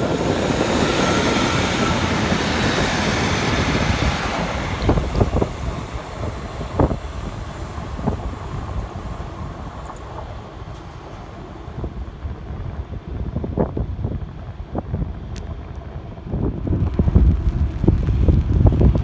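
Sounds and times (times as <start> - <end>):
train passing on tracks: 0.0 - 19.0.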